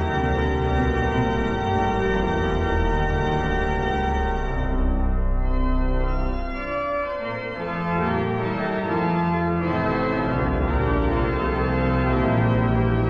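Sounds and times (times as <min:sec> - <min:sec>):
deep organ pedal bass notes: 0:00.0 - 0:13.0
pipe organ chords: 0:00.0 - 0:13.0.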